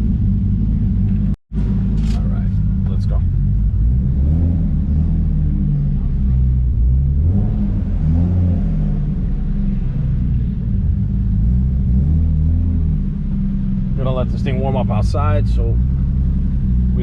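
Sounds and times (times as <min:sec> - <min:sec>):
car engine idling: 0:00.0 - 0:08.1, 0:08.8 - 0:17.0.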